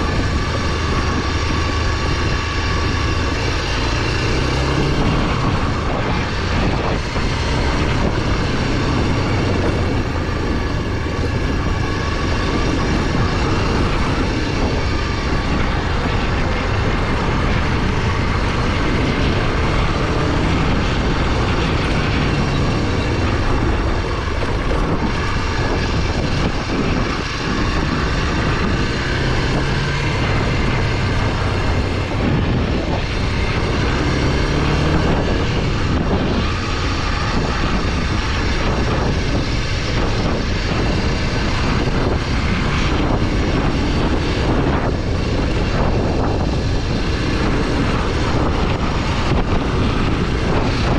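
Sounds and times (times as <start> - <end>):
motorcycle engine running: 0.0 - 50.9
wind rush: 0.0 - 50.9.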